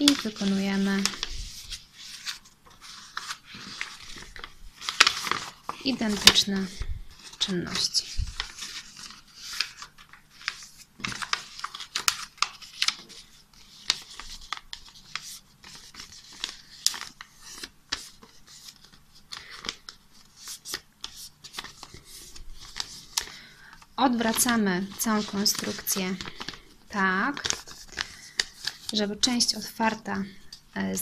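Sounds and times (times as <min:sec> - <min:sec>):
paper rustling and crinkling: 0:00.0 - 0:30.6.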